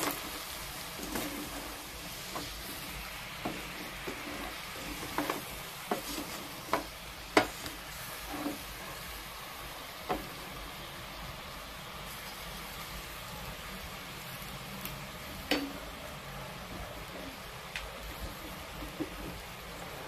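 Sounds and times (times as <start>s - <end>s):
sizzling hiss: 0.0s - 20.0s.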